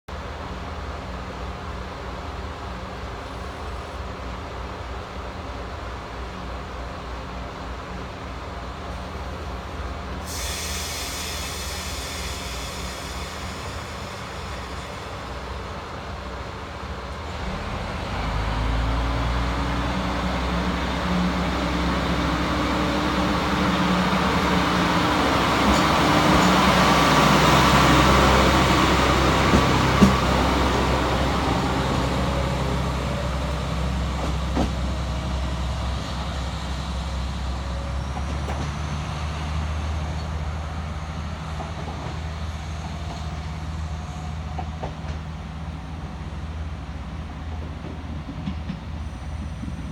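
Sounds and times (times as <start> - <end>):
diesel railcar engine revving: 5.8 - 49.9.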